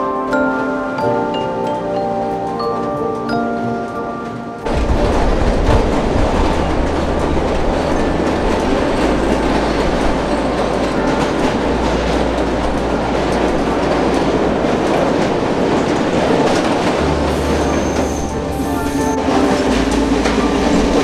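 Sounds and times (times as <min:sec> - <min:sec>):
train wheels rumbling on track: 0:01.7 - 0:21.0.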